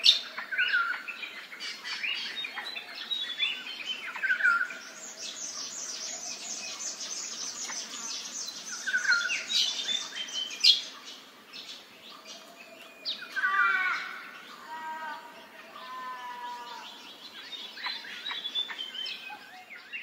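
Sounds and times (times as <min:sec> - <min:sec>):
warbling bird calls: 0:00.0 - 0:20.0.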